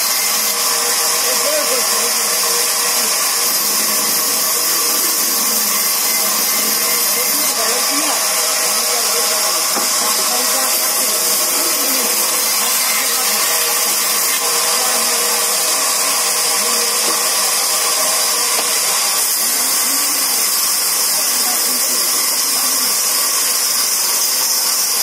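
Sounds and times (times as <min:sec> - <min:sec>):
band saw whirring: 0:00.0 - 0:25.0.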